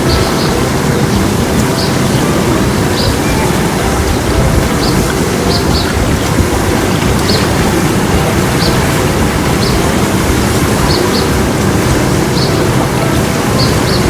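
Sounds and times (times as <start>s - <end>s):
bird chirping: 0.0s - 14.0s
loud steady rushing noise: 0.0s - 14.0s.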